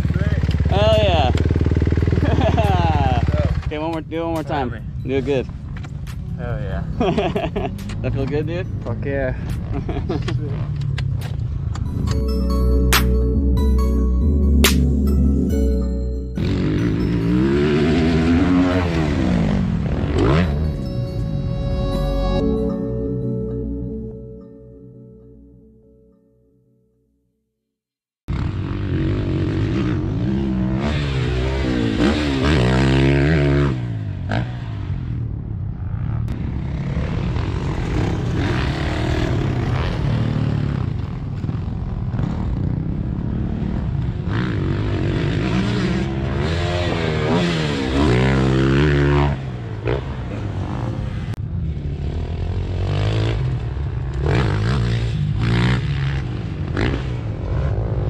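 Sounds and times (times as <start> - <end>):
dirt bike engines revving: 0.0 - 12.5, 16.4 - 22.2, 28.3 - 58.0.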